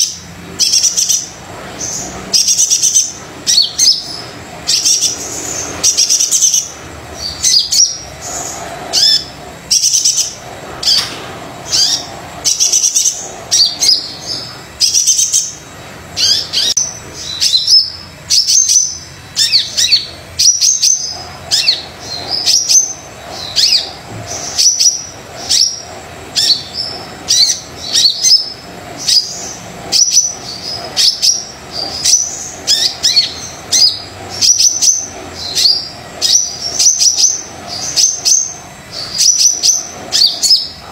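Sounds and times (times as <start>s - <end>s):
sunbird chirping and twittering: 0.0s - 40.9s.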